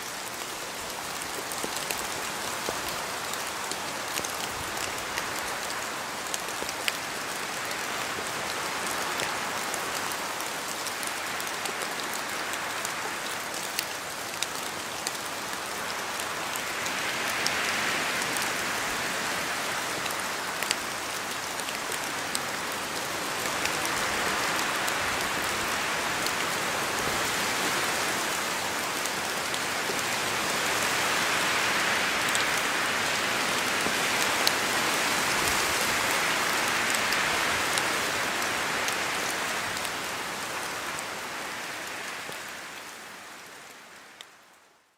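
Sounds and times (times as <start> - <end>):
steady rain falling: 0.0 - 44.9
wind through trees: 0.0 - 44.9.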